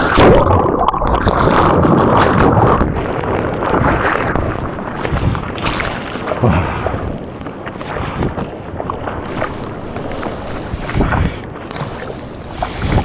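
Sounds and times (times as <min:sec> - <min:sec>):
ocean water splashing: 0:00.0 - 0:13.0.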